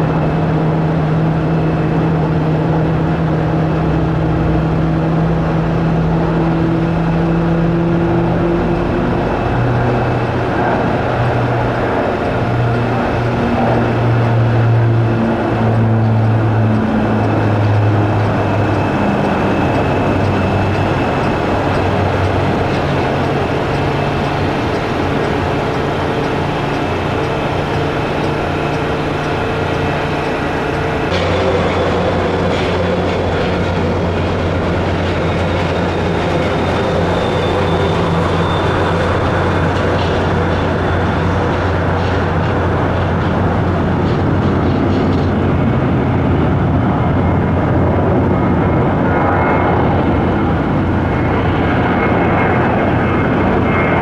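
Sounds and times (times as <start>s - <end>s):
jet engines rumbling and whining: 0.0s - 54.0s
turboprop engines at take-off power: 0.0s - 54.0s.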